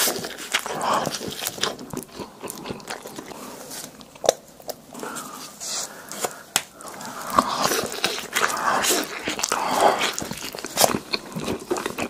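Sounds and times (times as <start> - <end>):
biting and chewing pizza: 0.0 - 12.0.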